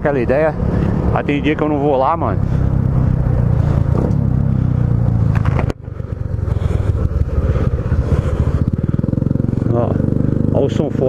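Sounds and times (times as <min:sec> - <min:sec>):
motorcycle engine with sport exhaust: 0:00.0 - 0:11.0.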